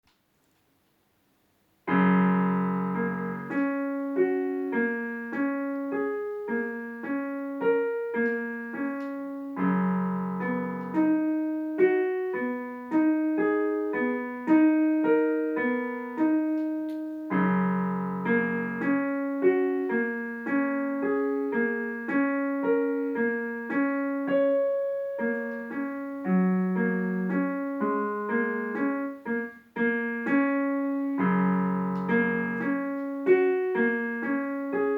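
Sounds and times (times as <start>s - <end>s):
piano playing broken chords: 1.9s - 34.9s.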